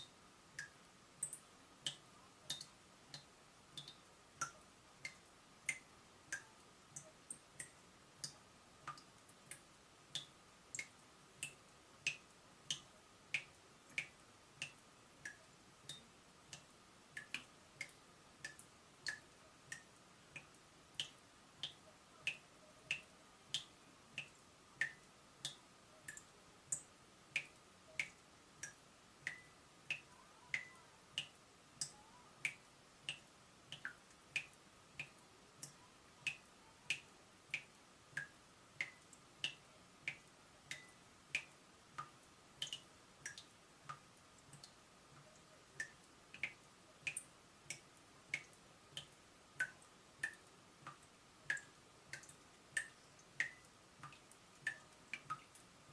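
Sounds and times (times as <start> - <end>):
tap dripping water drops: 0.0 - 9.6, 10.2 - 55.6.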